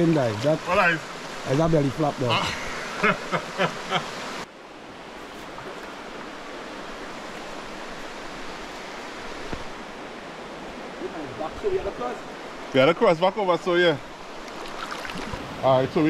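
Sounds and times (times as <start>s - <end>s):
water running over rocks: 0.0s - 16.0s.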